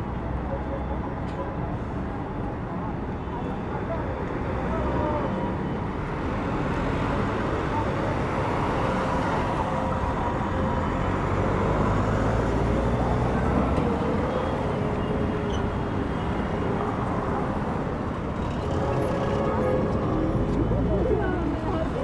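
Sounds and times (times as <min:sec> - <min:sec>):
traffic engine and tyre noise: 0:00.0 - 0:22.0.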